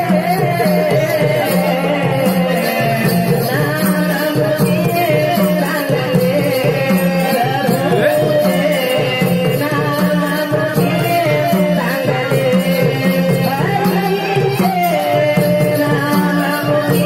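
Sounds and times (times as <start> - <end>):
hand drum beat: 0.0 - 17.0
person singing: 0.0 - 17.0.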